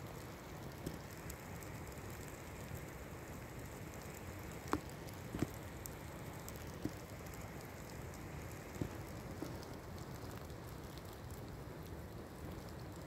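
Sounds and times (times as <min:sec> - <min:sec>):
fire burning with hiss: 0:00.0 - 0:13.0
fire crackling pops: 0:00.0 - 0:13.0.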